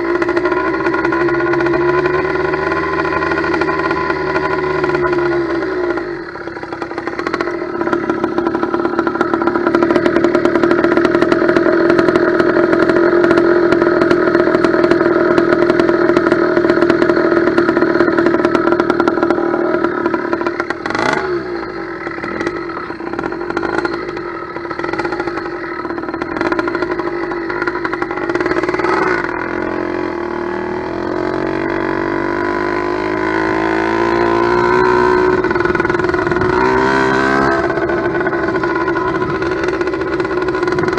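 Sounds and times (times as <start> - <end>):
two-stroke engine idling: 0.0 - 40.9.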